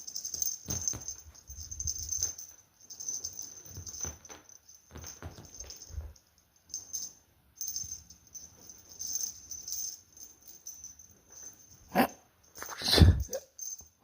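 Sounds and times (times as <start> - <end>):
cat toy jingling: 0.0 - 14.0.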